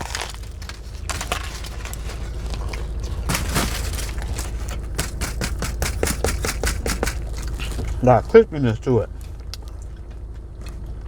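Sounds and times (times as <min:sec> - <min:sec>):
chewing crusty bread: 0:00.0 - 0:11.0
low hum: 0:00.0 - 0:11.0.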